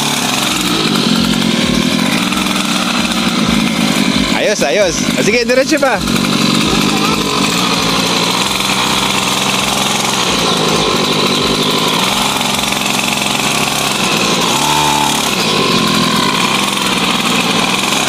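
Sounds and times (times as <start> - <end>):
two-stroke dirt bike engine: 0.0 - 18.0.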